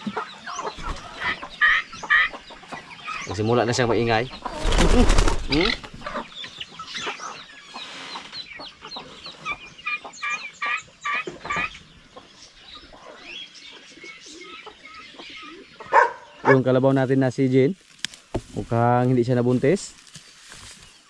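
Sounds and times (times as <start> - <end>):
poultry chattering calls: 0.0 - 17.1.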